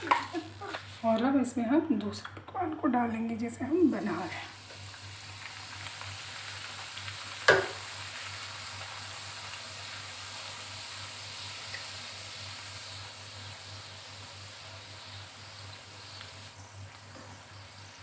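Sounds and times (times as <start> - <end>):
flatbread sizzling in hot oil: 0.0 - 1.5, 3.9 - 18.0.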